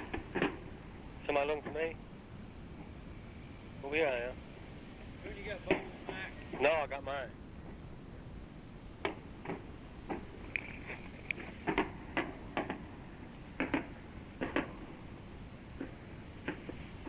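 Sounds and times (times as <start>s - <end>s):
tape hiss and hum: 0.0s - 17.0s.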